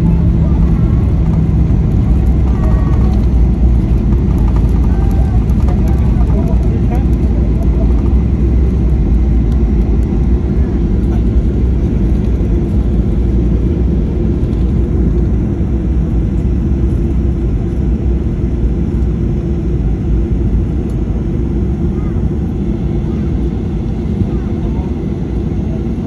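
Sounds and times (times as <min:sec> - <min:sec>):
jet engine rumble in cabin: 0:00.0 - 0:26.0.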